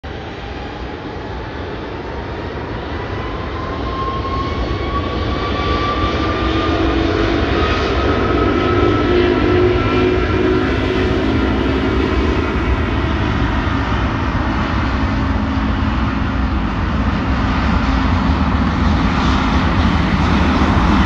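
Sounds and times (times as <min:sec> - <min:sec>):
jet engines roaring: 0:00.1 - 0:21.0
rising engine whine: 0:00.1 - 0:21.0.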